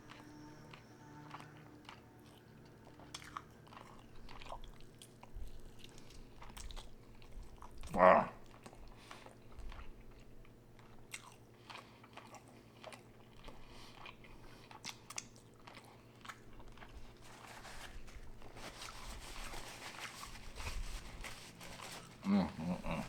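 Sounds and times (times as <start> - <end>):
faint low hum: 0.0 - 23.0
person chewing food: 0.0 - 23.0.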